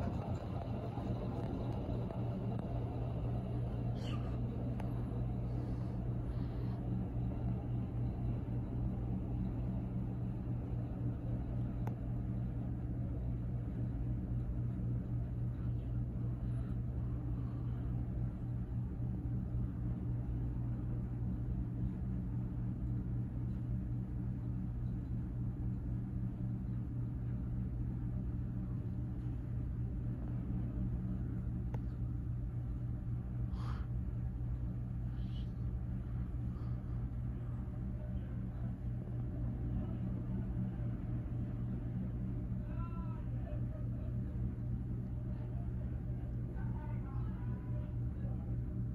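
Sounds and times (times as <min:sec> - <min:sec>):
ceiling fan motor humming: 0:00.0 - 0:48.9.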